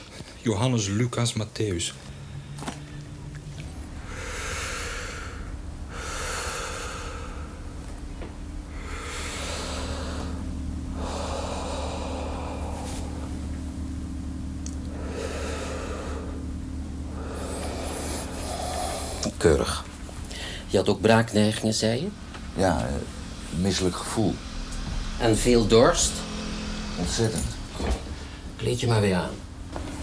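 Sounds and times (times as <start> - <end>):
steady low hum: 0.0 - 30.0
man breathing deeply: 2.0 - 19.4, 20.0 - 20.8, 22.2 - 28.6.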